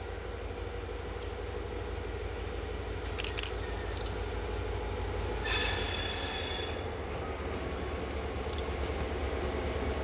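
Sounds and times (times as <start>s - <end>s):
diesel locomotive engine rumble: 0.0s - 10.0s.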